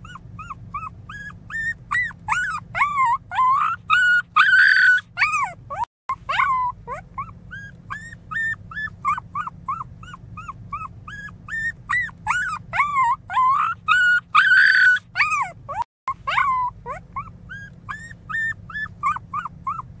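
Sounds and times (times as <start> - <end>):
puppy crying: 0.0 - 20.0.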